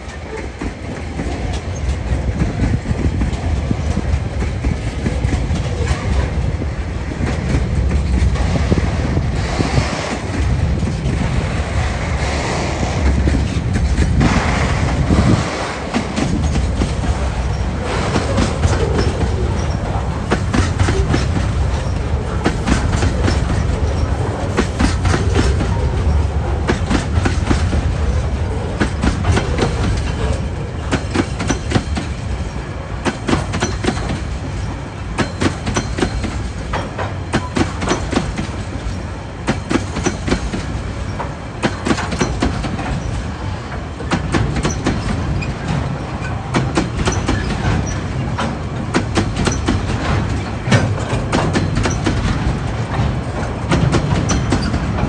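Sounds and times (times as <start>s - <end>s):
steel wheels rumbling on rail: 0.0s - 55.0s
wheels clicking over rail joints: 0.0s - 55.0s.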